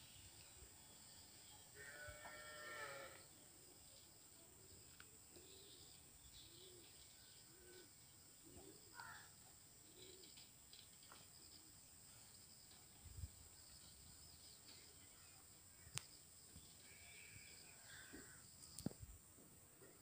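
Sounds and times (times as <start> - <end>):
soft bird chirps: 0.0 - 19.1.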